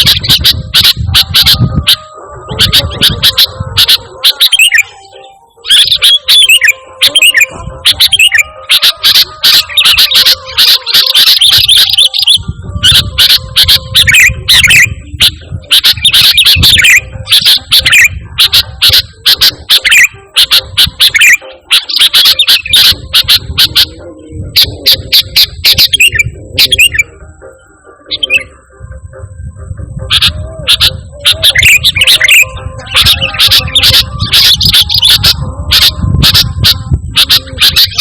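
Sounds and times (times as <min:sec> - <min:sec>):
bird chirping song: 0:00.0 - 0:38.0.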